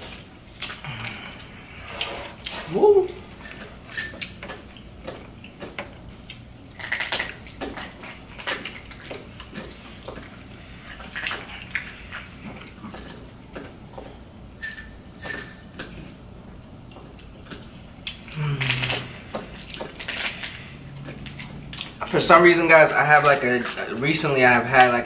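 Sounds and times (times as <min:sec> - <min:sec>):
wet chewing: 0:00.0 - 0:14.6, 0:15.7 - 0:22.2.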